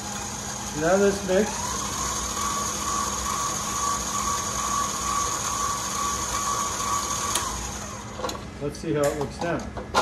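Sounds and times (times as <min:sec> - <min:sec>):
stand mixer running: 0:00.0 - 0:08.2.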